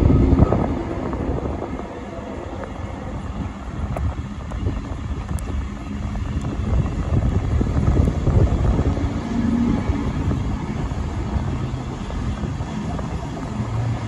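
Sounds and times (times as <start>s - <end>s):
steam train rumbling: 0.0s - 14.0s
wind on microphone: 0.0s - 14.0s.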